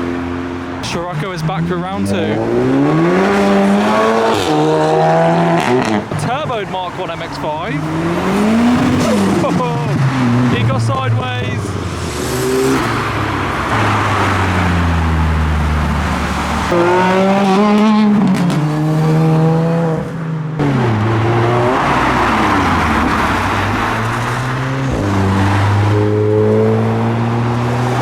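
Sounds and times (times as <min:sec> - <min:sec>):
cars accelerating and revving: 0:00.0 - 0:28.0.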